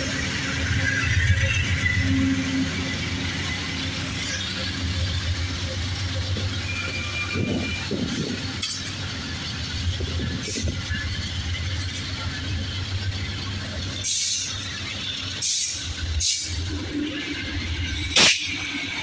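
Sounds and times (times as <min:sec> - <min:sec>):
diesel locomotive hum: 0:00.0 - 0:19.0
train wheels rumbling on rail: 0:00.0 - 0:19.0.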